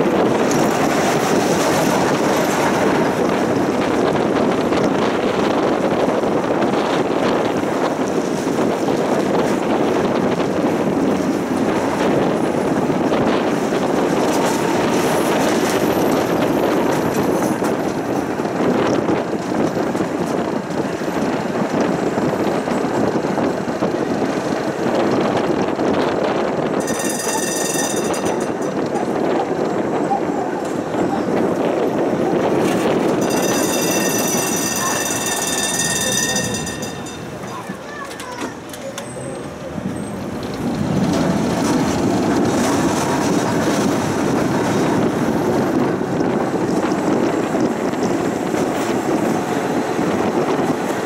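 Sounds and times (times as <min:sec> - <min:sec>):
tram clicks: 0:00.0 - 0:51.0
wheels rumbling on rails: 0:00.0 - 0:51.0.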